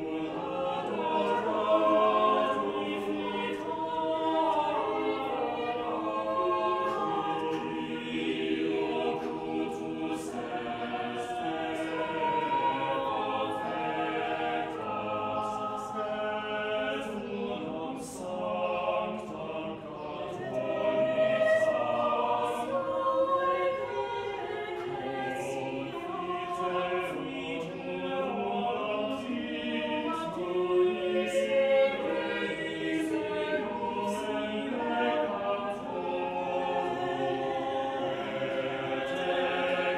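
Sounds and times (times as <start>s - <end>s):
mixed choir singing a cappella: 0.0s - 39.9s.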